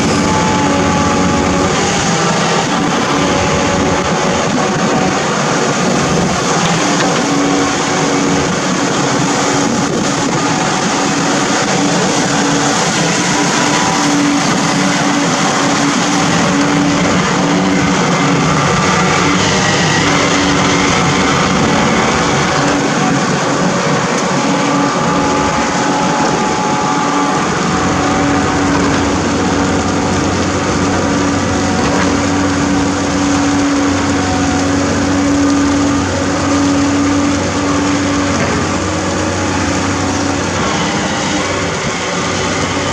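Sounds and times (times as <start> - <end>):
backhoe engine running: 0.0 - 42.9.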